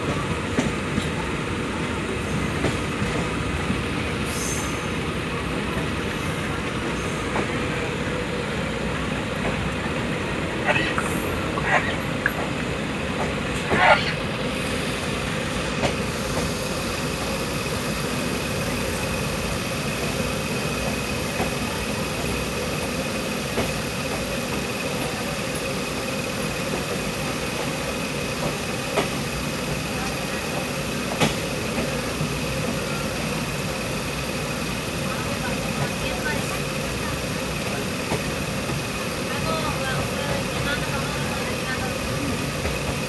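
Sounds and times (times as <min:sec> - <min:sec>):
train carriage rumble: 0:00.0 - 0:43.0.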